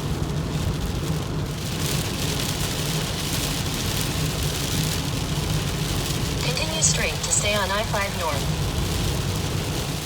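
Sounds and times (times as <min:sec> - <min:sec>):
car engine and road noise: 0:00.0 - 0:10.0
rain hitting a car: 0:00.0 - 0:10.0.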